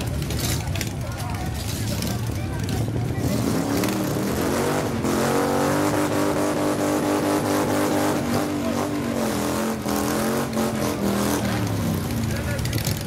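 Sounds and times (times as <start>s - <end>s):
motorcycle engine revving high: 1.9s - 13.0s.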